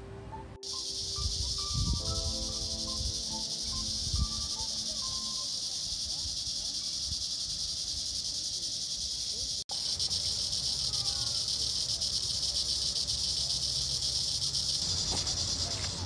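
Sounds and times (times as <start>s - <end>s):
insect chorus buzzing: 0.6s - 16.0s.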